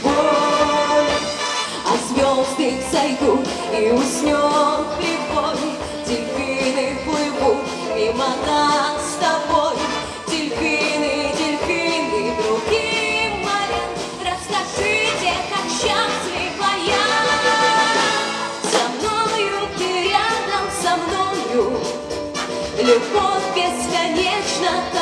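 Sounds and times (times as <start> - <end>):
woman singing pop song: 0.0 - 22.1, 22.8 - 25.0
brass dance band playing: 0.0 - 25.0.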